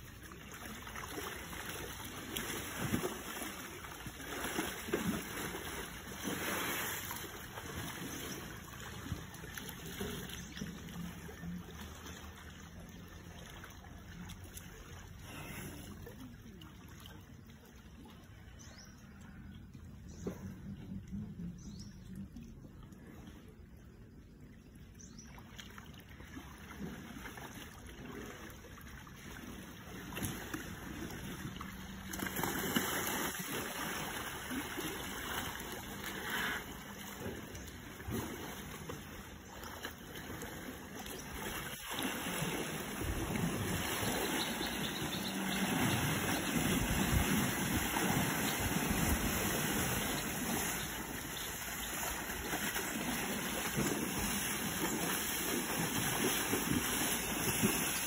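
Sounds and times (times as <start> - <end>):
water sloshing and splashing: 0.0 - 58.0.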